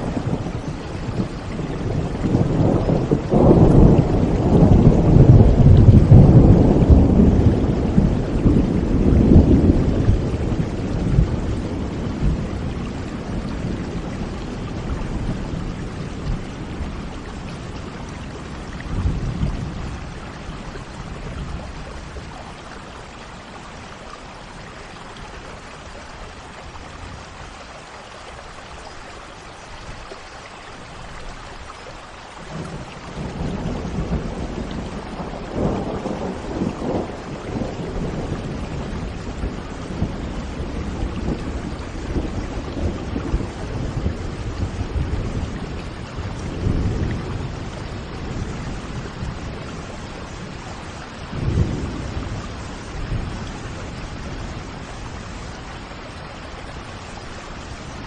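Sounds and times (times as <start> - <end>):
thunder rumbling: 0.0 - 23.7, 32.5 - 58.0
steady rain: 0.0 - 58.0.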